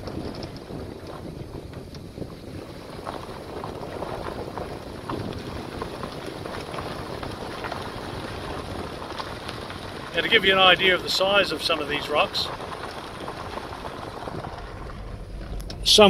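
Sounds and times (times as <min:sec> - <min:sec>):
stones crackling: 0:00.0 - 0:16.0
vehicle rumbling on gravel: 0:00.0 - 0:16.0
wind on microphone: 0:00.0 - 0:16.0.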